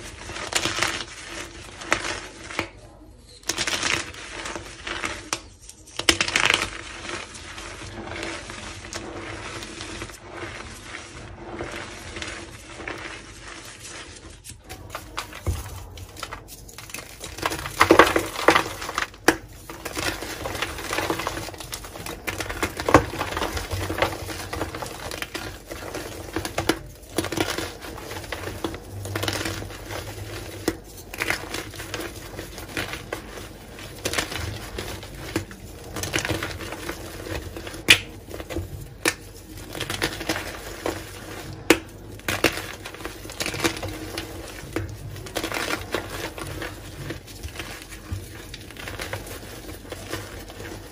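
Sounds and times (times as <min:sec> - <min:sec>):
chalk blocks crunching by hand: 0:00.0 - 0:02.8, 0:03.4 - 0:50.9.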